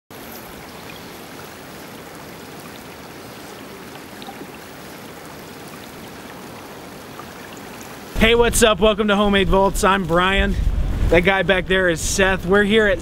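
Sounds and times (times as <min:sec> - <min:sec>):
creek water flowing: 0:00.1 - 0:12.9.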